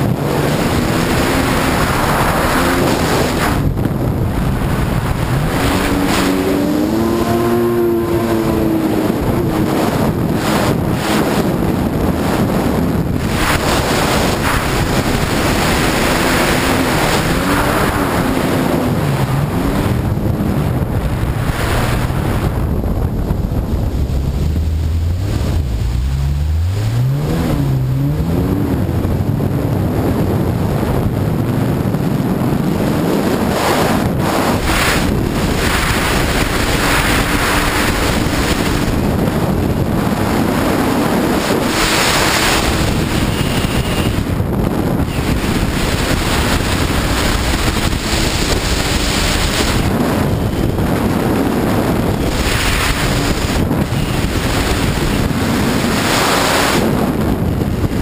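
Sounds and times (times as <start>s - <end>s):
rushing water: 0.0s - 58.0s
watercraft engine revving: 0.0s - 58.0s
wind noise on microphone: 0.0s - 58.0s.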